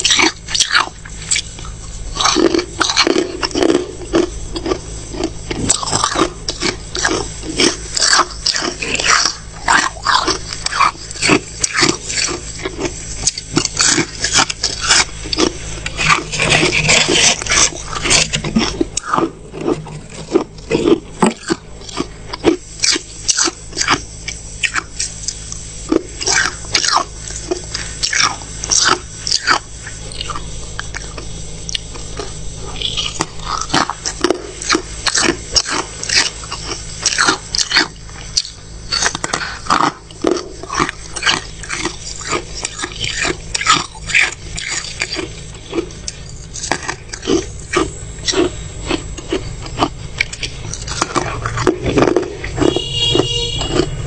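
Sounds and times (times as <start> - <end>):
frost crunching while chewed: 0.0 - 54.0.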